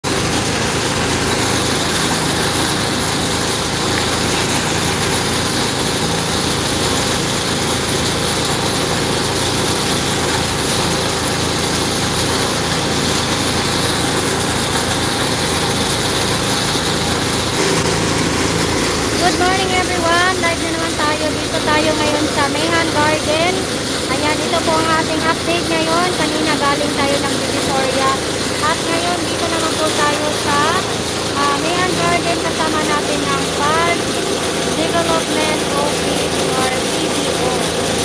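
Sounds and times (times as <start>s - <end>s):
hose spraying water: 0.1s - 38.0s
truck engine idling: 0.1s - 38.0s.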